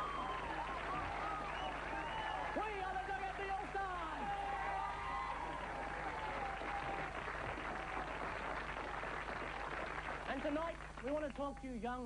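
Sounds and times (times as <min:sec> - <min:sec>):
audience cheering and applause: 0:00.0 - 0:11.2.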